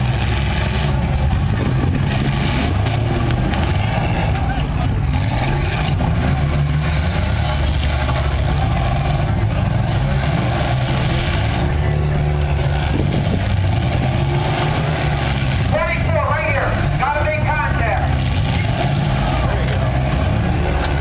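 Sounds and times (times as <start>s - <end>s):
car engines running and revving: 0.0s - 21.0s.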